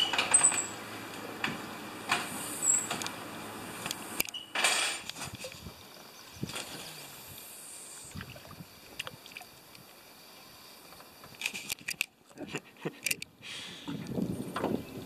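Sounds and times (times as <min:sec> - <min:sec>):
hiss of wind and water: 0:00.0 - 0:15.0.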